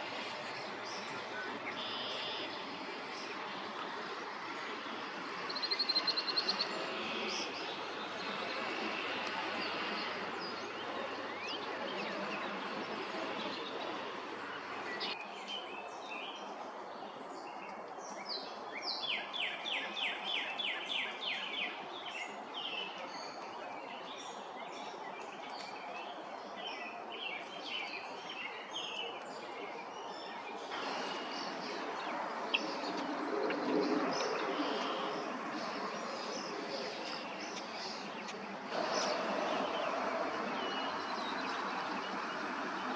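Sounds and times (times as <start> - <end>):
wild birds chirping: 0.0 - 16.5, 17.1 - 42.9
steady outdoor background noise: 0.0 - 42.9.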